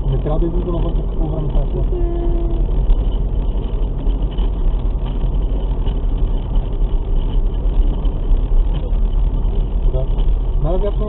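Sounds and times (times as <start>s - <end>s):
deep low rumble: 0.0s - 11.0s.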